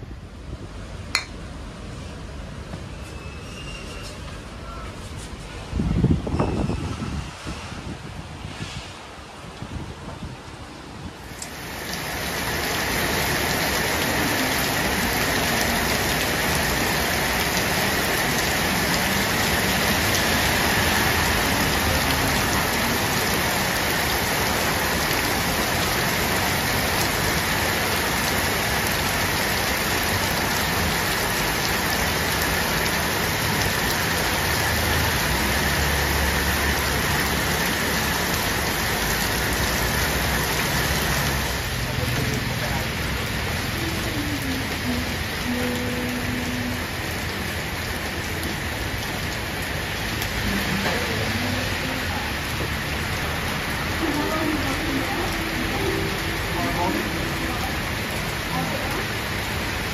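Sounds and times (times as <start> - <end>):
heavy rain falling: 4.4 - 59.9.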